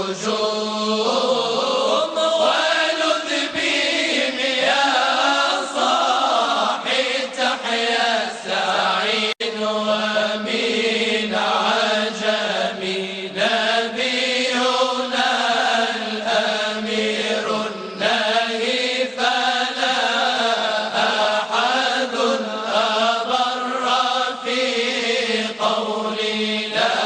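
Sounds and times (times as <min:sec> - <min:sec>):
voices chanting melismatic line: 0:00.0 - 0:27.0.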